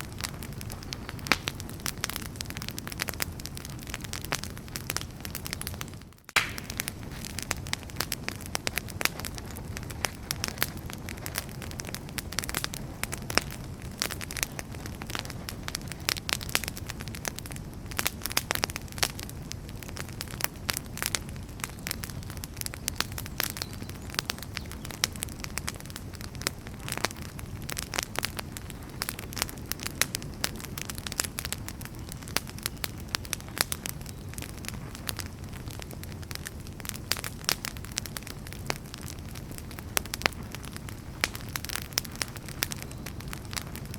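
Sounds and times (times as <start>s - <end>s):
fire crackling and popping: 0.0s - 43.9s
low rumble of burning logs: 0.0s - 43.9s.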